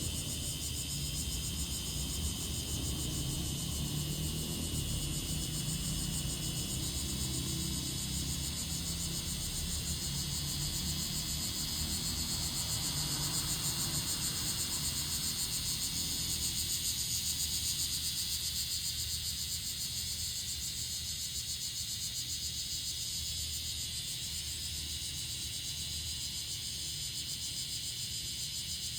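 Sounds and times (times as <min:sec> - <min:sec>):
cicadas buzzing: 0:00.0 - 0:28.9.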